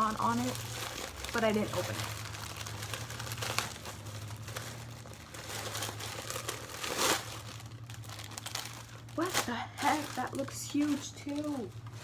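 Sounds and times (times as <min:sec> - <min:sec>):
package wrapping crinkling: 0:00.0 - 0:12.0
sharp crackle: 0:00.0 - 0:12.0.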